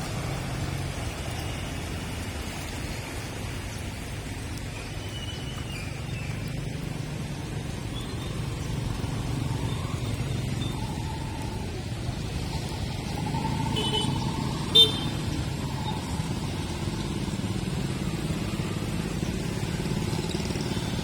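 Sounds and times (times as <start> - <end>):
hum of engines: 0.0 - 21.0
tyres hissing on wet pavement: 0.0 - 21.0.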